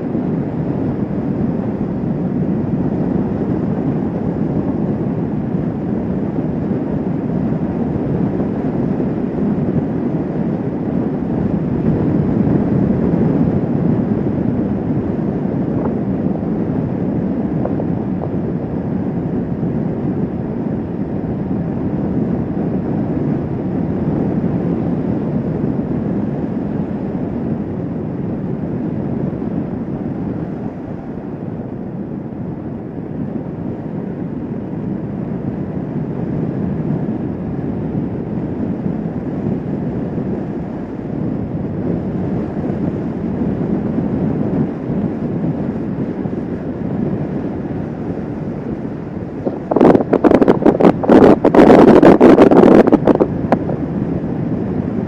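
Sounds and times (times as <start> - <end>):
wind rush over microphone: 0.0 - 55.0.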